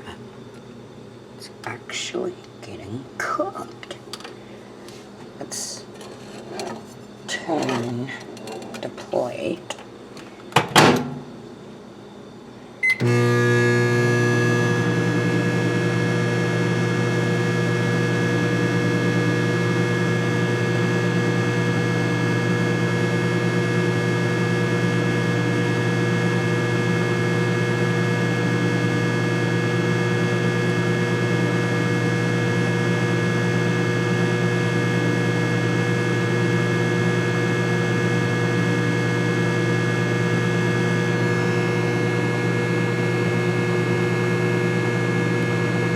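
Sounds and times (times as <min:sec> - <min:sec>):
microwave humming: 0:00.0 - 0:45.9.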